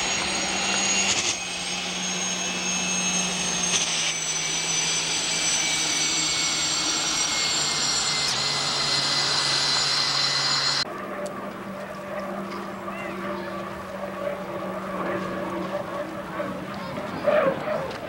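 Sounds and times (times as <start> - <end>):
boat engine whining: 0.0 - 18.0.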